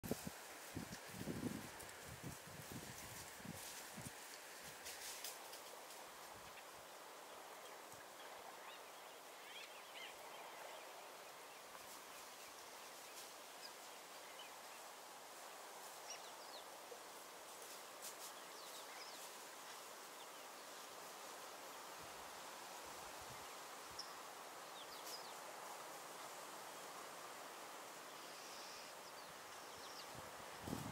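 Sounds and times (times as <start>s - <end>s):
steady background hiss: 0.1s - 30.9s.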